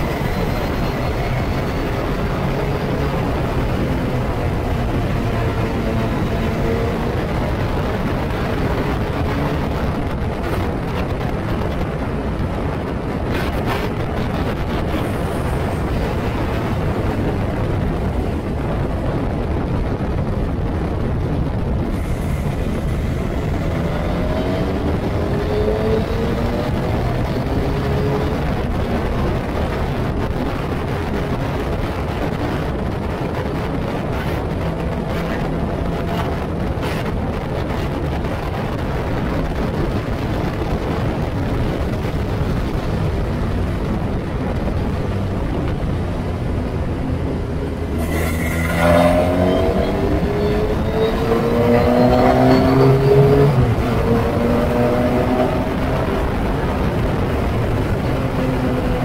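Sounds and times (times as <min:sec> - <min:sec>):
racing car engine: 0:00.0 - 0:59.0
wind buffeting microphone: 0:00.0 - 0:59.0.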